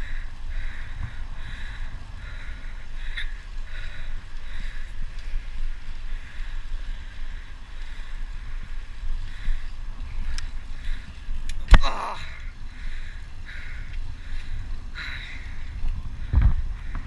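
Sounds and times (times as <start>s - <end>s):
bicycle tyres rolling on pavement: 0.0s - 17.0s
wind rushing over microphone: 0.0s - 17.0s.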